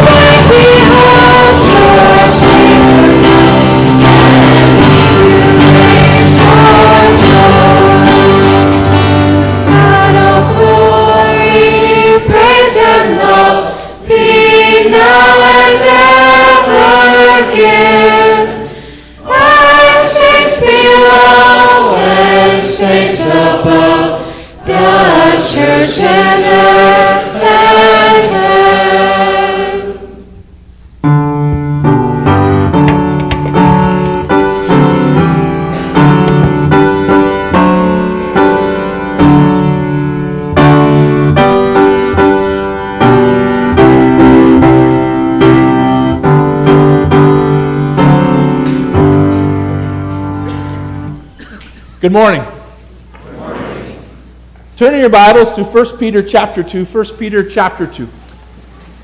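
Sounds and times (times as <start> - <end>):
piano playing: 0.0 - 30.1, 30.9 - 51.4
congregation singing a hymn: 0.0 - 30.4, 31.5 - 51.6, 52.2 - 58.2.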